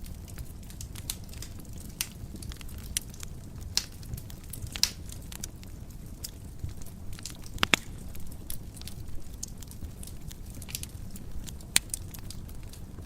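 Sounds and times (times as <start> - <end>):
fire crackling: 0.0 - 13.0
fire pops: 0.0 - 13.0.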